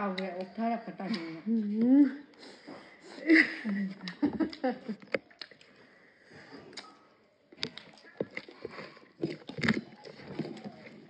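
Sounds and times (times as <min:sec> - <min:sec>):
people chewing and eating: 0:00.0 - 0:11.0.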